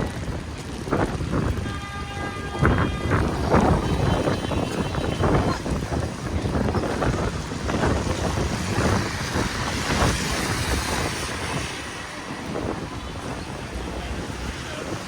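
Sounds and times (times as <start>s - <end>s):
passing traffic: 0.0s - 15.0s
wind gusting on microphone: 0.0s - 15.0s.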